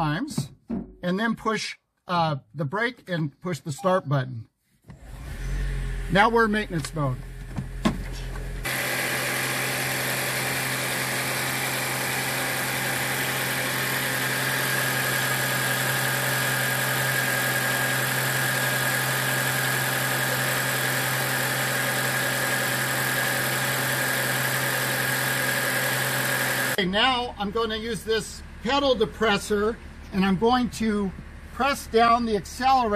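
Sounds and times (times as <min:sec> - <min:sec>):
car engine idling: 0:04.9 - 0:32.9.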